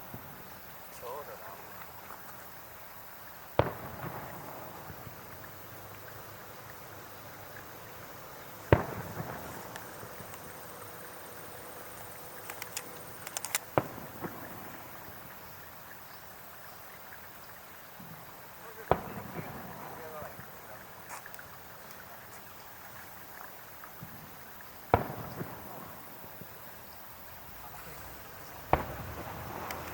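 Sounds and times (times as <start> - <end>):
firework bangs echoing: 0.0 - 2.0, 3.4 - 15.9, 18.0 - 22.0, 23.9 - 29.9
firework crackling pops: 0.0 - 29.9.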